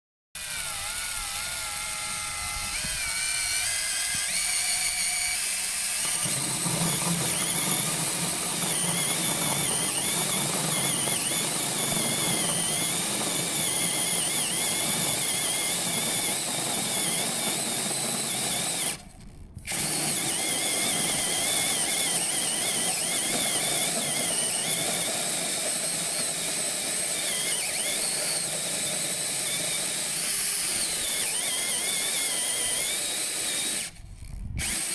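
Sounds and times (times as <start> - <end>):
hole saw grinding: 0.4 - 34.9
power drill motor whine: 0.4 - 34.9.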